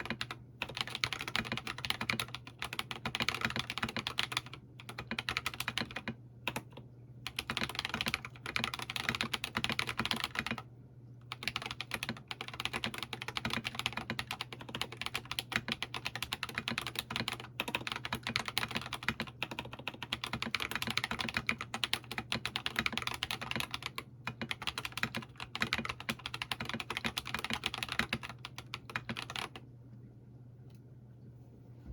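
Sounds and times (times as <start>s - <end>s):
fast typing on mechanical keyboard: 0.0s - 10.6s, 11.2s - 29.6s
faint low hum: 0.0s - 31.9s.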